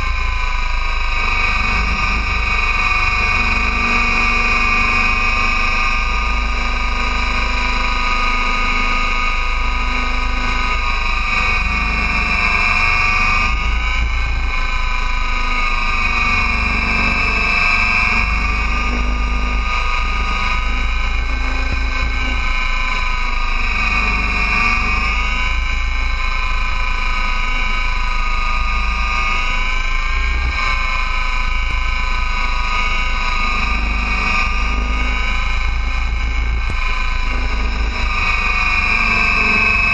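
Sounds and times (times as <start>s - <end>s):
rc helicopter rotor whine: 0.0s - 39.9s
wind rumble on microphone: 0.0s - 39.9s.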